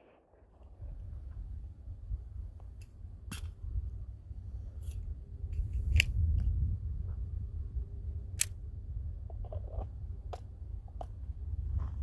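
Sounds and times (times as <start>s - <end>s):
wind buffeting microphone: 0.5s - 12.0s.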